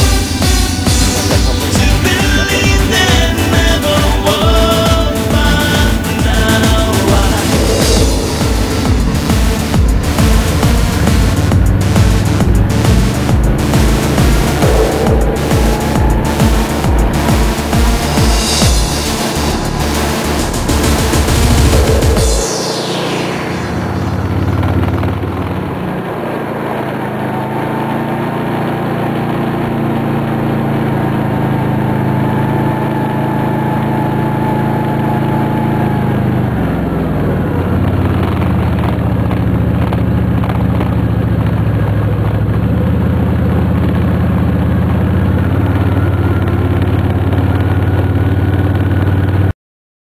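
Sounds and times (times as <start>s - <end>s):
atv engine running: 0.0s - 22.2s, 24.3s - 49.5s.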